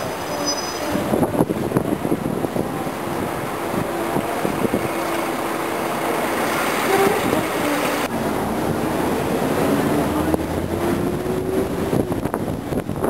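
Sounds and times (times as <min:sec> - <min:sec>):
bus engine running: 0:00.0 - 0:13.0
city traffic: 0:00.0 - 0:13.0.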